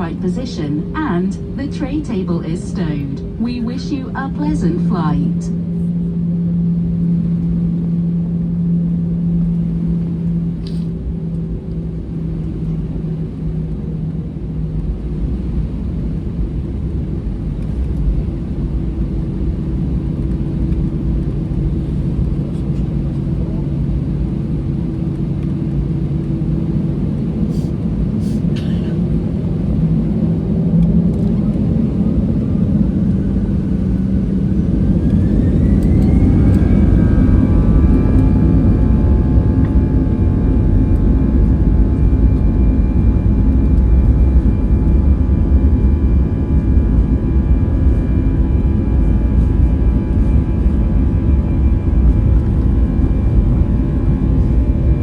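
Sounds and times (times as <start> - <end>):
jet engine whine rising: 0.0 - 55.0
low engine rumble: 0.0 - 55.0.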